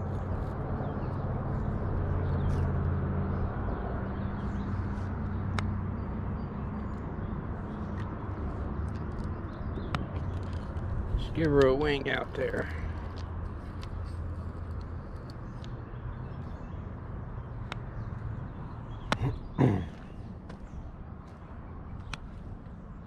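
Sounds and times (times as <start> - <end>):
low engine hum: 0.0 - 23.0
rushing outdoor background: 0.0 - 23.0.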